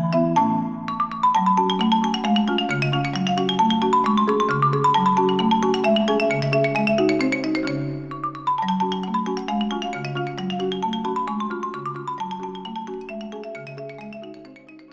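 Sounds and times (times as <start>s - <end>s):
mallet percussion notes: 0.0s - 14.9s.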